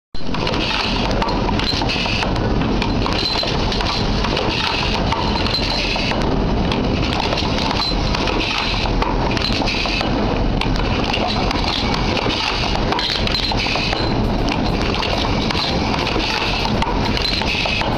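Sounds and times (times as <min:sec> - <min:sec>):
metal parts clicking and clinking: 0:00.3 - 0:17.9.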